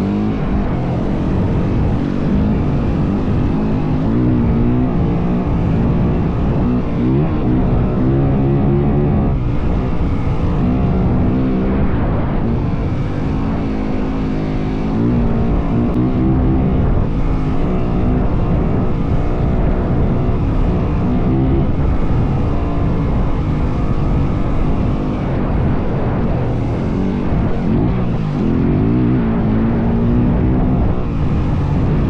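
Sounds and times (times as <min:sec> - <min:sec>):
dirt bike engine running: 0:00.0 - 0:32.0
wind noise: 0:00.0 - 0:32.0.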